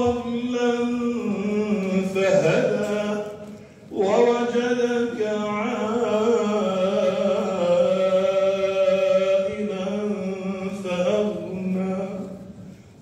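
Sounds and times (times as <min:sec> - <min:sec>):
man chanting melodically: 0:00.0 - 0:12.6.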